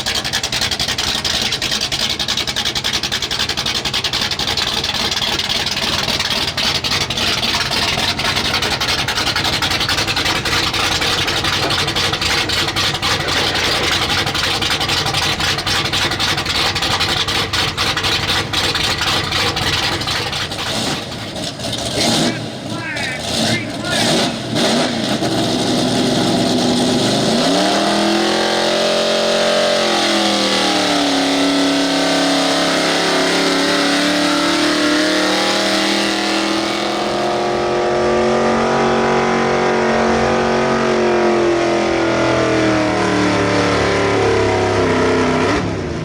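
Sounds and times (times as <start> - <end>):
truck engine at full throttle: 0.0 - 46.0.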